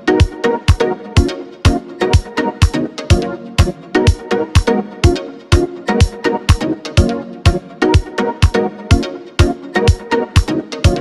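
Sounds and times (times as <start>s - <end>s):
upbeat background music: 0.0s - 11.0s
deep kick drum: 0.2s - 11.0s.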